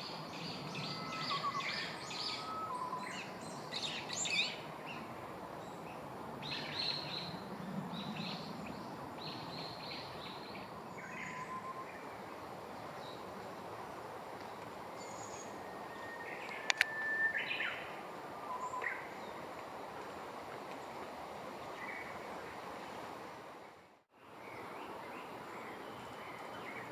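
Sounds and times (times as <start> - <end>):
outdoor background hiss: 0.0 - 26.9.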